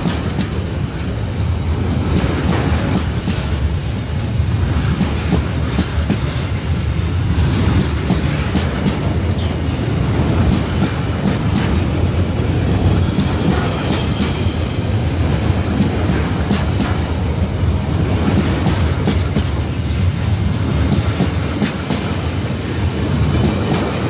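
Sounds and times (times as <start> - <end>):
wheels clicking over rail joints: 0.0 - 1.2, 2.1 - 24.0
train wheels rumbling: 0.0 - 24.0.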